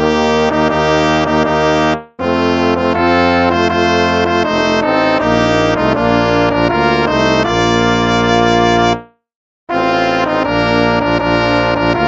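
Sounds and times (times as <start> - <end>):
instrumental brass hymn: 0.0 - 12.0.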